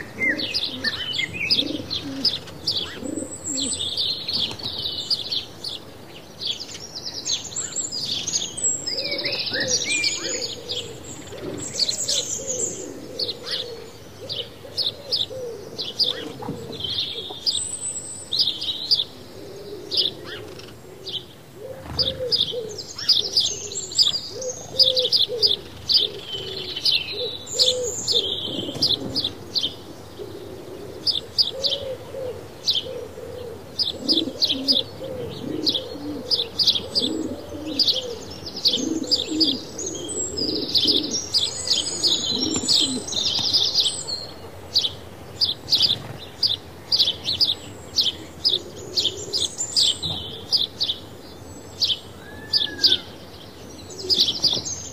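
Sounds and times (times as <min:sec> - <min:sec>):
low cooing calls: 0:00.0 - 0:06.4, 0:07.4 - 0:54.9
sparrows chirping: 0:00.0 - 0:54.9.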